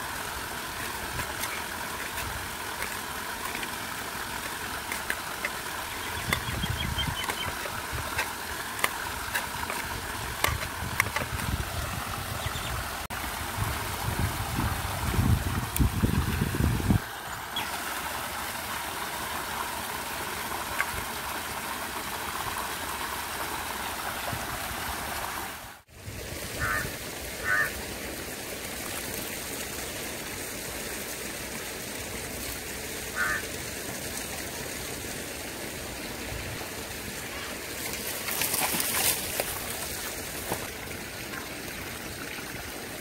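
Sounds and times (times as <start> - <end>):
outdoor background hiss: 0.0 - 43.0.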